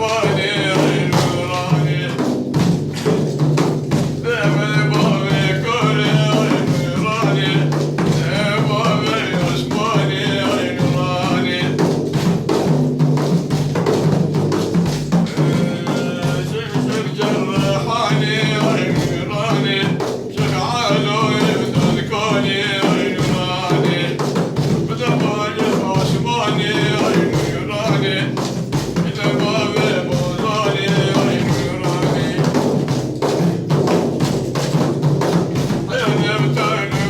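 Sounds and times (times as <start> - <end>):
man singing praise song: 0.0 - 37.0
steady drum beat: 0.0 - 37.0.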